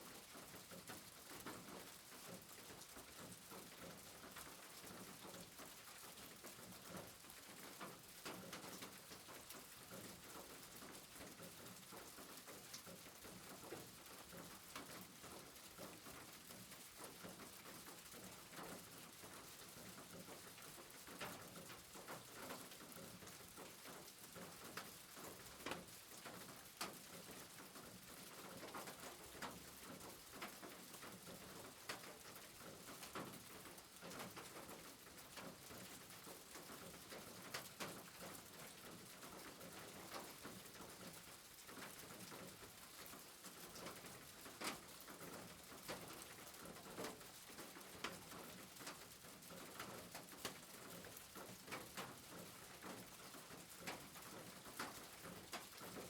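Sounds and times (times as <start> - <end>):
faint rain hiss: 0.0 - 56.0.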